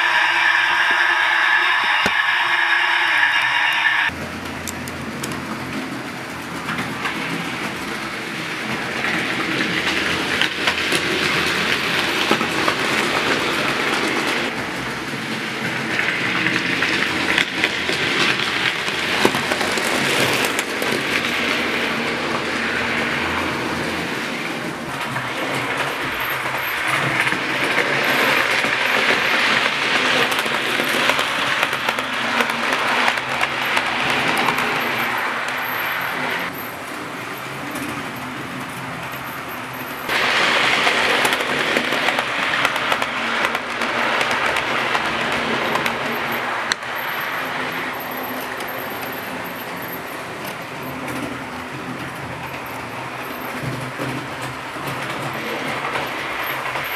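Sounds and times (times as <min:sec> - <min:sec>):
model train wheels rattling: 0:00.0 - 0:56.9.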